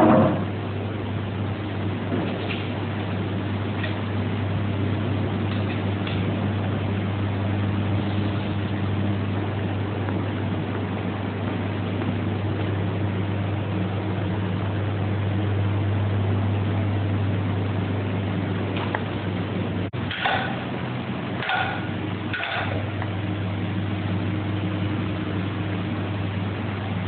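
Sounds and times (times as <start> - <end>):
machine humming: 0.0 - 27.0.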